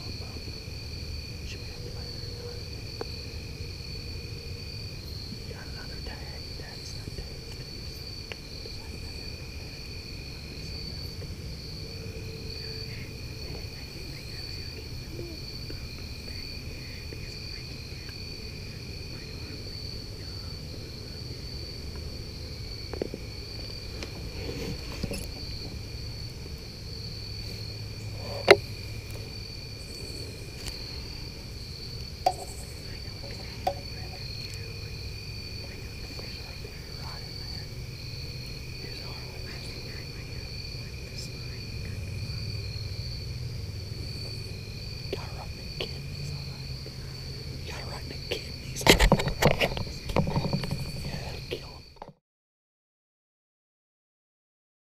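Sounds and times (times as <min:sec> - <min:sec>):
low background rumble: 0:00.0 - 0:48.9
crickets chirping: 0:00.0 - 0:52.2.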